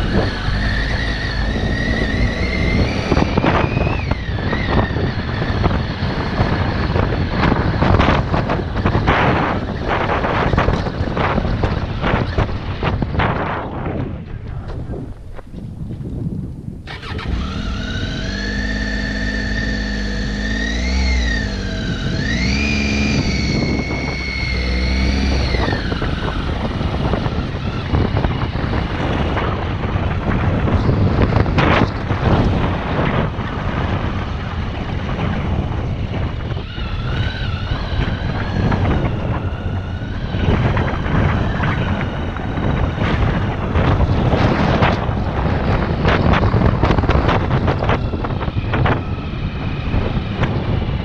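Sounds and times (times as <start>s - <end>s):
motorcycle engine revving: 0.0s - 16.0s, 16.8s - 51.0s
wind noise: 0.0s - 51.0s.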